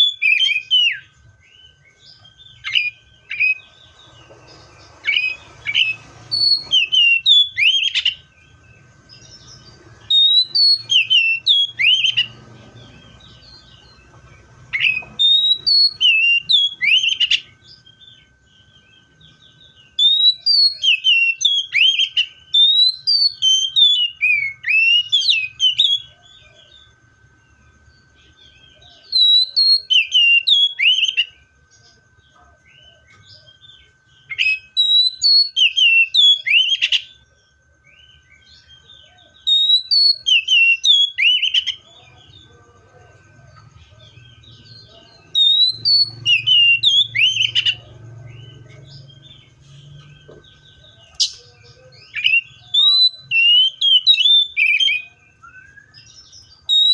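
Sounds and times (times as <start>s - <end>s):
magpie-robin singing whistled notes: 0.0s - 27.0s, 27.6s - 31.9s, 32.6s - 56.9s.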